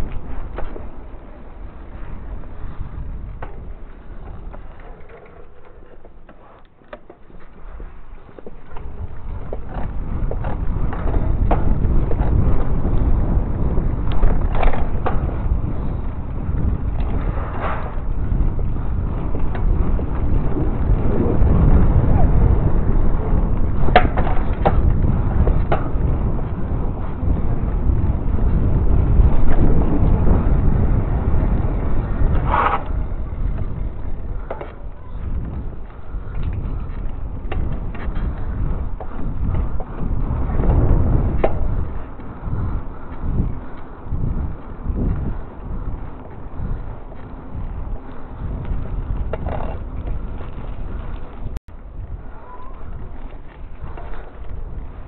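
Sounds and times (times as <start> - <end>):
bicycle clicks and rattles: 0.0 - 55.0
bike tyres on wet road: 0.0 - 55.0
wind buffeting microphone: 0.0 - 55.0.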